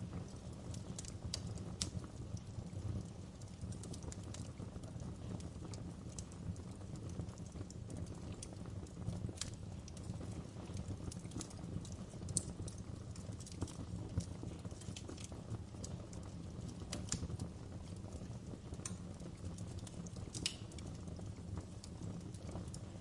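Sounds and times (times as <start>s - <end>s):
fire flames rumbling: 0.0s - 23.0s
wood crackling and popping: 0.0s - 23.0s.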